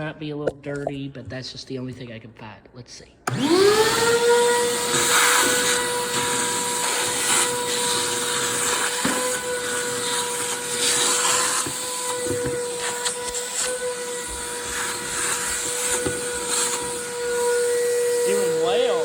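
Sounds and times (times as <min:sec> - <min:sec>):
shop vacuum running: 0:03.3 - 0:19.0.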